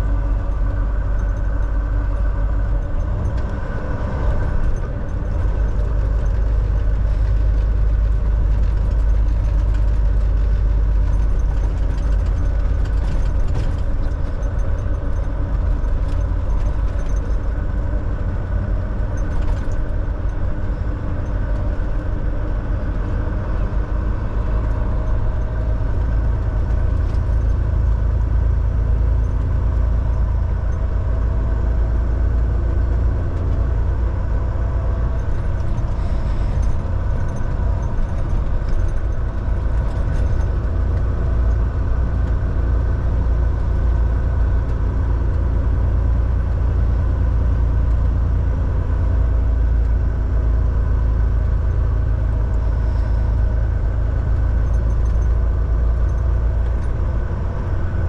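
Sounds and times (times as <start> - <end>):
truck diesel engine and tyres droning: 0.0 - 58.0.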